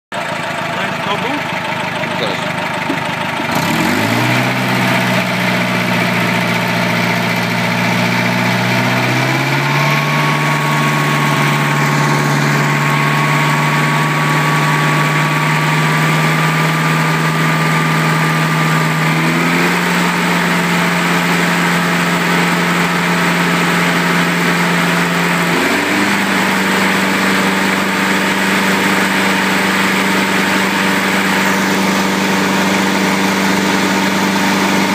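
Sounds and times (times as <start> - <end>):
engine running: 0.1 - 34.9.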